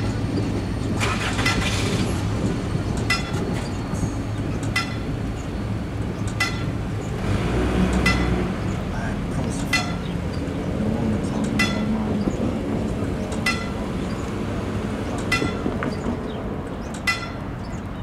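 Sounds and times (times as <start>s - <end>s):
crossing signal bell dinging: 0.0s - 7.2s, 7.9s - 8.7s, 9.5s - 18.0s.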